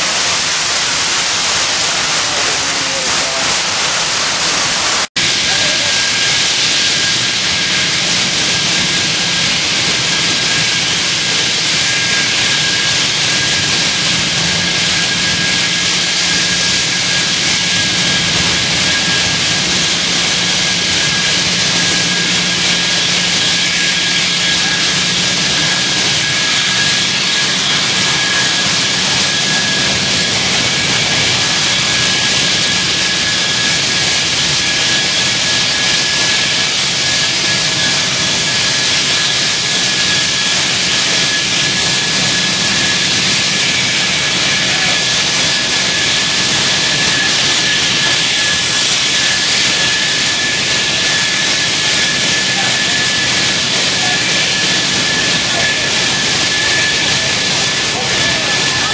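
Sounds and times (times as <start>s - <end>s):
gas venting and burning hiss: 0.0s - 58.9s.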